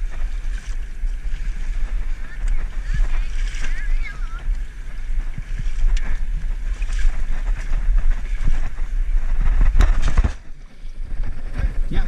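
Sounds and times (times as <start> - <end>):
fast river water rushing: 0.0 - 12.0
wind buffeting microphone: 0.0 - 12.0.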